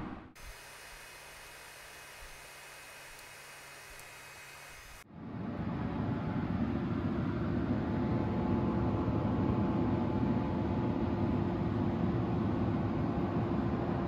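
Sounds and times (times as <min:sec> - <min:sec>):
blower rumble and hiss: 0:00.0 - 0:14.0.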